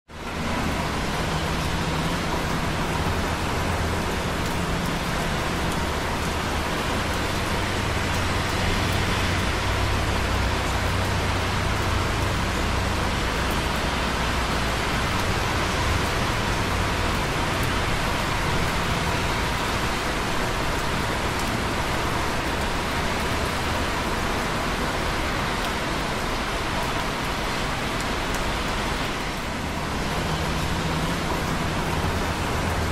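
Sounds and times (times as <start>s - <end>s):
tyres on wet road: 0.0s - 32.9s
low traffic rumble: 0.1s - 32.9s
rain dripping on concrete: 0.1s - 32.9s
rain hiss: 0.1s - 32.9s.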